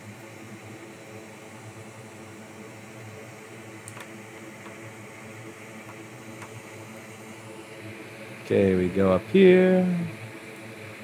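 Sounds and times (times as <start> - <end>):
fan-like hiss: 0.0 - 11.0.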